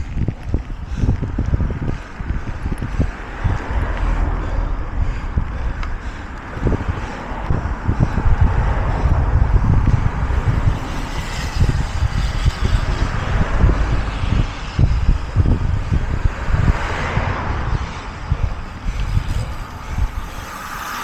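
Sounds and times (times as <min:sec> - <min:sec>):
steady rushing hiss: 0:00.0 - 0:21.0
wind buffeting microphone: 0:00.0 - 0:21.0.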